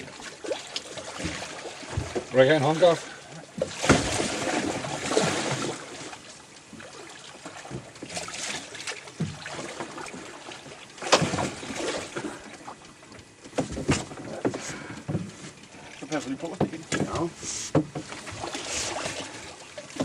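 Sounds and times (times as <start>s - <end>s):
water noise on boat: 0.0s - 20.0s
wind: 0.0s - 20.0s.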